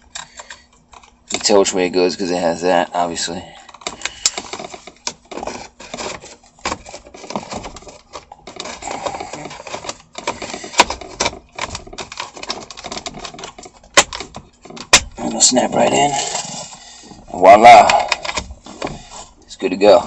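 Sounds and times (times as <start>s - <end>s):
plastic parts clicking and rattling: 0.0s - 1.8s, 3.6s - 20.0s.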